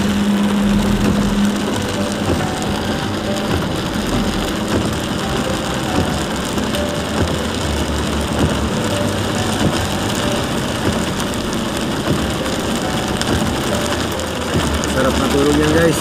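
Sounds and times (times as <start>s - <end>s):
car engine running: 0.0s - 15.8s
heavy rain on car roof: 0.0s - 16.0s.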